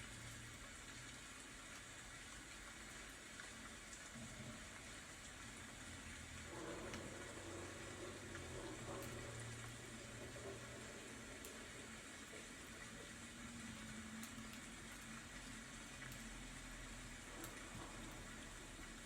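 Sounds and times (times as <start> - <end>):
faint steady rain: 0.0 - 19.0.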